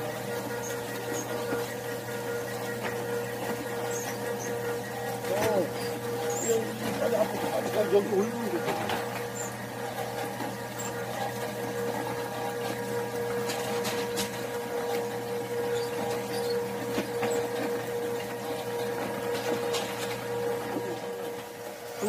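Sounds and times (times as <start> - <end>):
electric motor and conveyor humming: 0.0 - 22.0.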